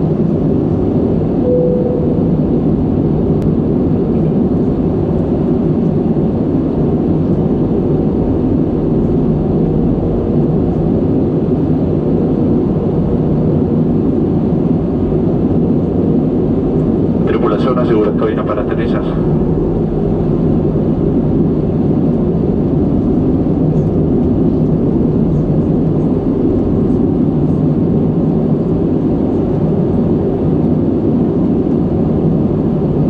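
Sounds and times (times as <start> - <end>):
aircraft cabin engine rush: 0.0 - 33.0
faint steady hum: 1.2 - 31.3.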